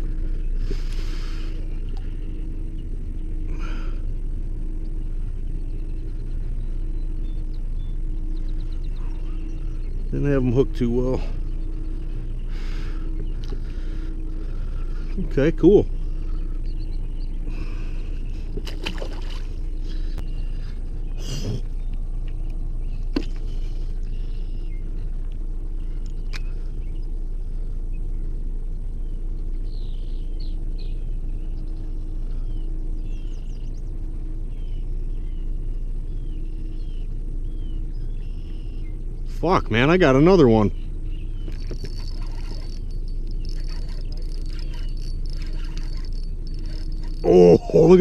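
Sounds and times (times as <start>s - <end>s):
birds chirping: 0.0s - 48.0s
low rumble with hum: 0.0s - 48.0s.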